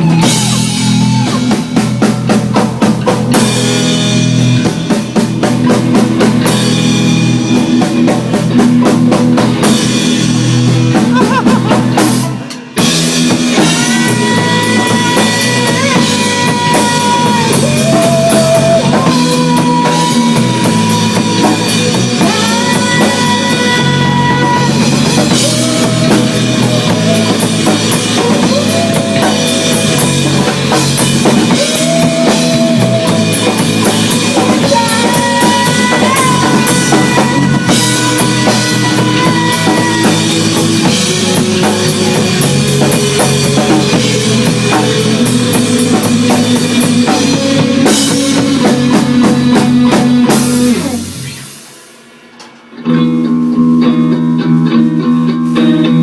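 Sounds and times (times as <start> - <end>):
rock music with drums and guitar: 0.0 - 56.0.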